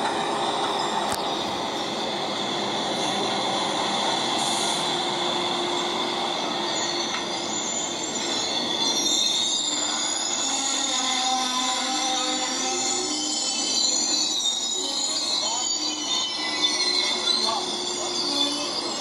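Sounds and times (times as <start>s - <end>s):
train rumbling: 0.0s - 19.0s
train wheels squealing: 0.0s - 19.0s.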